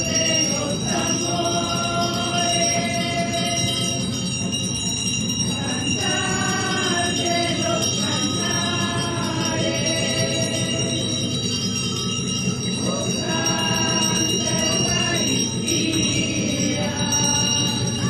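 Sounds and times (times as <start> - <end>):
hymn singing voices: 0.0 - 4.5, 5.4 - 11.7, 12.4 - 18.0.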